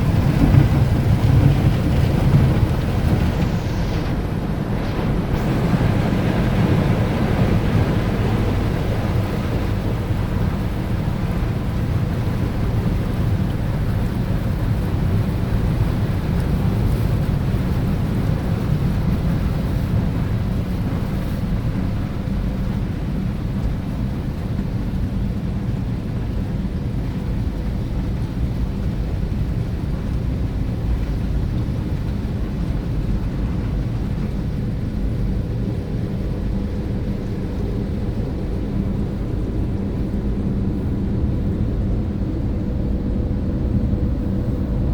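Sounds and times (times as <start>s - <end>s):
car wash machinery rumbling: 0.0s - 44.9s.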